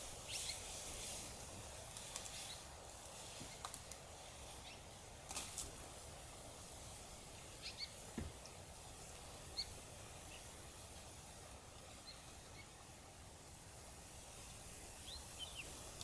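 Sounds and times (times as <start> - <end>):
low outdoor hiss: 0.0 - 16.0.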